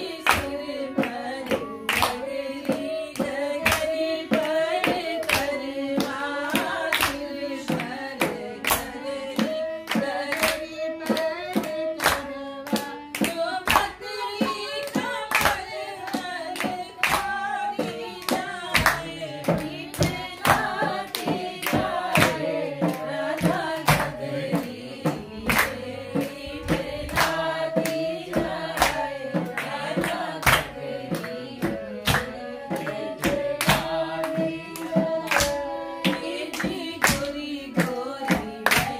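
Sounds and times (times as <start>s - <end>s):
folk singing: 0.0s - 38.9s
hand drum: 0.0s - 38.9s
hand-clapping: 0.0s - 38.9s
harmonium: 0.0s - 38.9s.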